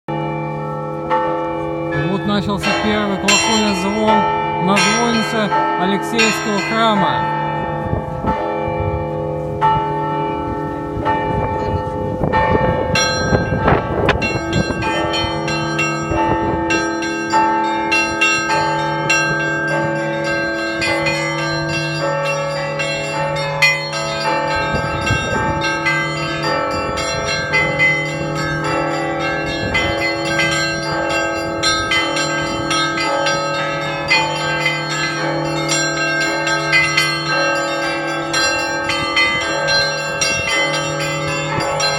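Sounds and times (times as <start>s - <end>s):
low bass church bell: 0.1s - 41.9s
small high bells ringing: 0.1s - 41.9s.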